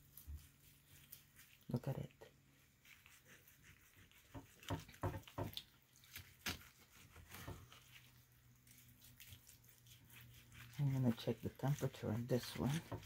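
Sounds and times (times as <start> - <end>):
wet squishes of meat: 0.0 - 13.0.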